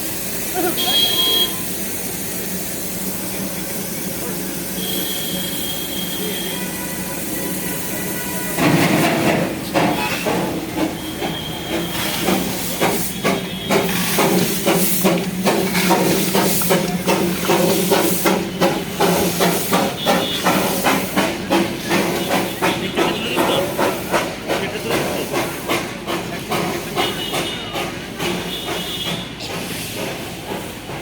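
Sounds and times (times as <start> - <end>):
steam hiss: 0.0 - 31.0
steam locomotive chuffing: 0.0 - 31.0.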